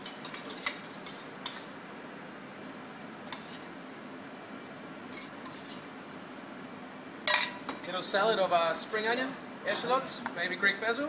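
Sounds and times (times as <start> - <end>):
restaurant kitchen noise: 0.0 - 11.0.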